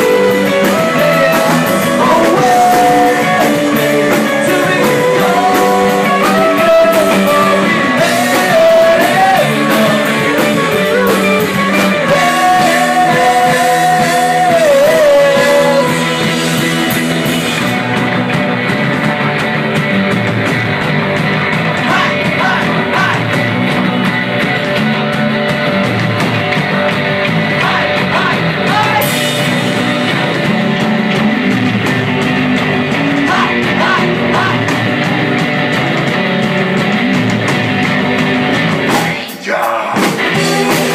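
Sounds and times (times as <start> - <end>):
live rock band playing: 0.0 - 40.9
wavering lead guitar line: 0.0 - 40.9.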